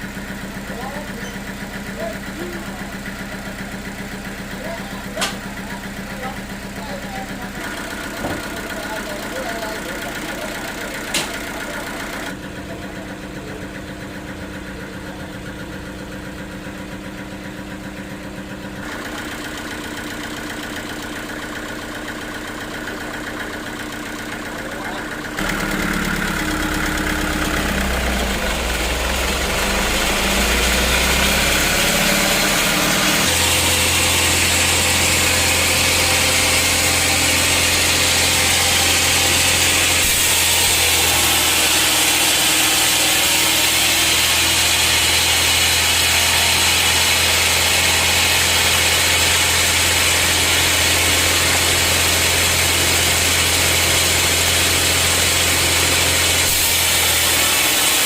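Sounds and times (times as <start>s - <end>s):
sawmill saw machinery humming: 0.0s - 58.0s.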